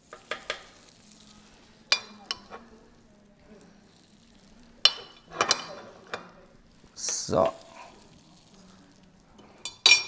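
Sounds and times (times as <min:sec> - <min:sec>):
mixture sizzling on hot plates: 0:00.0 - 0:10.0.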